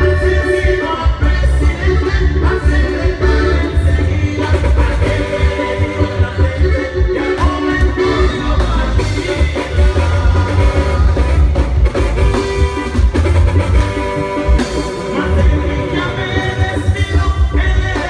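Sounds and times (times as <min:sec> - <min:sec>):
lead singer: 0:00.0 - 0:13.0, 0:13.7 - 0:18.0
live band music: 0:00.0 - 0:18.0.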